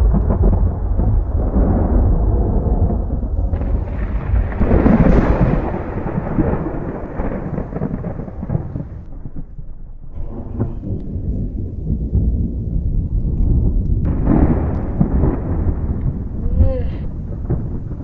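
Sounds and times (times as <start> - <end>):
thunder rolling: 0.0 - 18.0.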